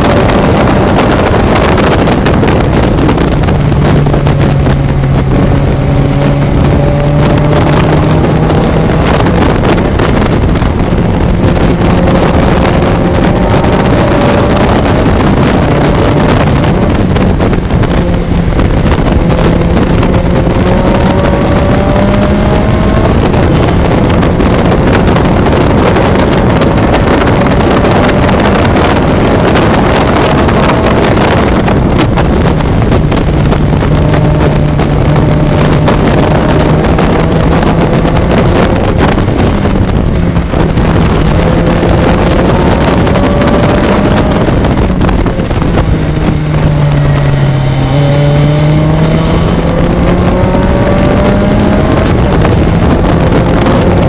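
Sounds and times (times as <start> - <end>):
race car engine under load: 0.0 - 54.0
road noise on wet track: 0.0 - 54.0
wind noise: 0.0 - 54.0.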